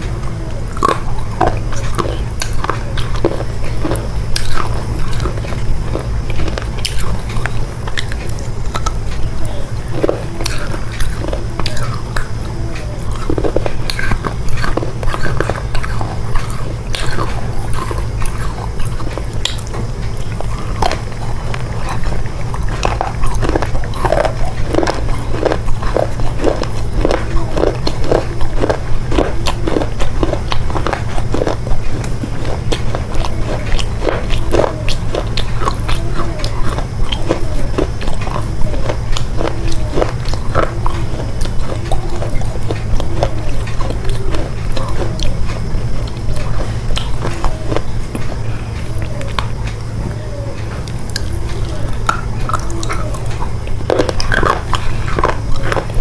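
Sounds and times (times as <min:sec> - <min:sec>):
person chewing chocolate: 0:00.0 - 0:56.0.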